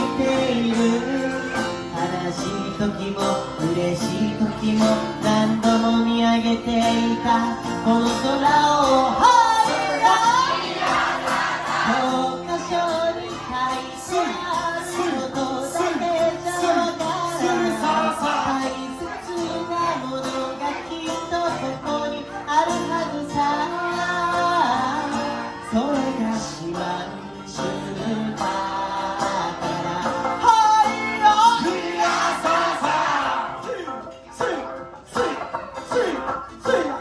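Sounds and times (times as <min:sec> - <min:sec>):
person singing: 0:00.0 - 0:37.0
plucked lute accompaniment: 0:00.0 - 0:37.0.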